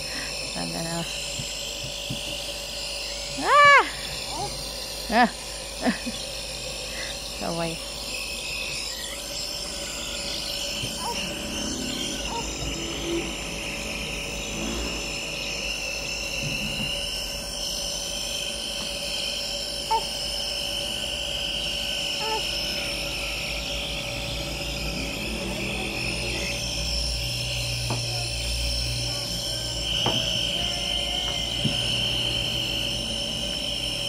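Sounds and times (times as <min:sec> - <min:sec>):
compressor nebuliser humming: 0:00.0 - 0:34.0.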